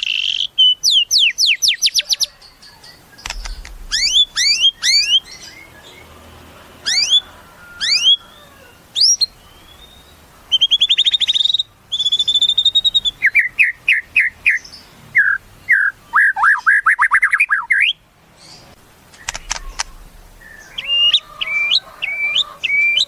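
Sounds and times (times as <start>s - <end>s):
songbird whistles and trills: 0.0s - 5.9s, 6.9s - 8.4s, 9.0s - 18.6s, 19.2s - 23.0s.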